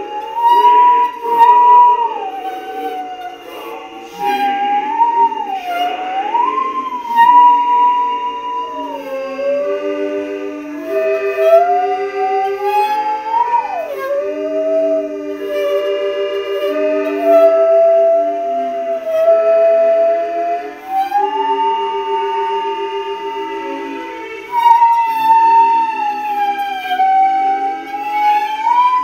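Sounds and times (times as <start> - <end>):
lower note accompaniment: 0.0 - 29.0
musical saw playing: 0.0 - 29.0.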